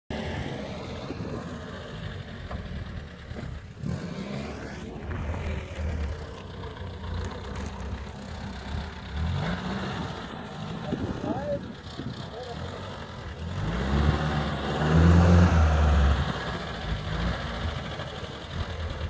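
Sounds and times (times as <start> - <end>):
jeep engine idling: 0.2 - 19.0.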